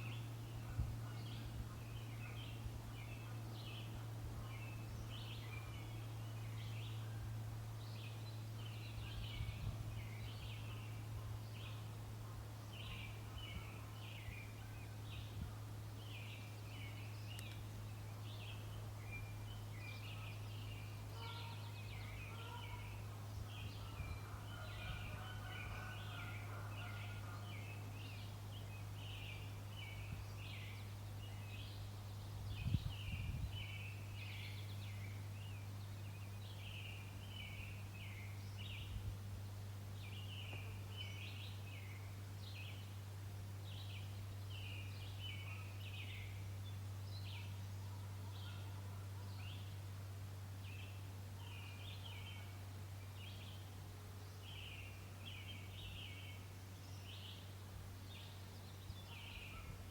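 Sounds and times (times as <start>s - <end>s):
birds chirping and singing: 0.0s - 39.1s, 43.6s - 49.8s, 50.6s - 59.9s
steady low hum: 0.0s - 59.9s.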